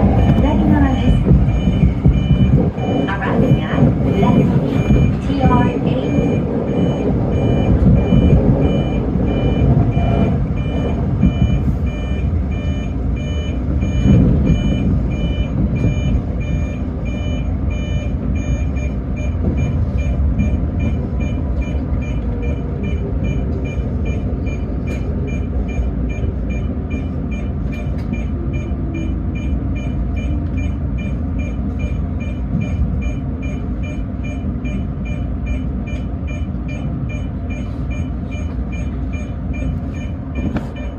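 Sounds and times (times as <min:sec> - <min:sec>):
train rumble: 0:00.0 - 0:40.9
electronic beeps: 0:00.2 - 0:40.9.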